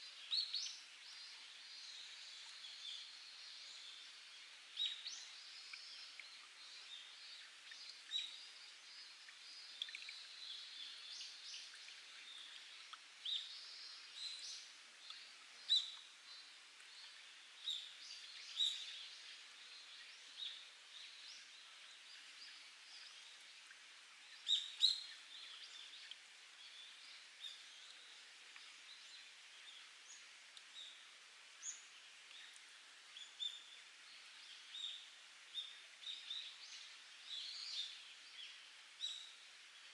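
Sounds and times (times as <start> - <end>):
water trickling over rock: 0.0 - 39.9.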